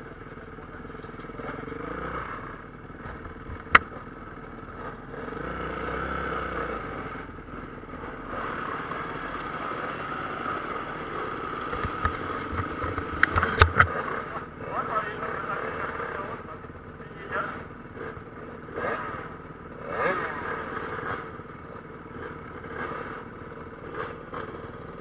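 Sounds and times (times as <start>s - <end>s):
motocross motorcycle engines racing: 0.0s - 25.0s.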